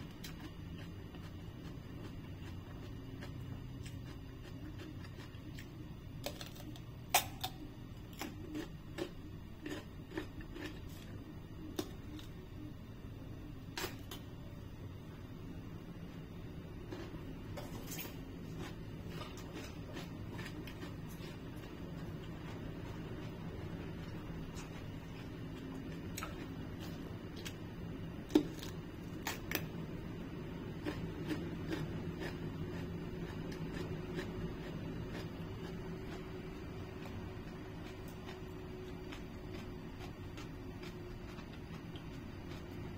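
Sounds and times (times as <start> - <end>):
crunchy chewing of cucumber: 0.0 - 12.8, 16.6 - 42.9
low steady hum: 0.0 - 42.9.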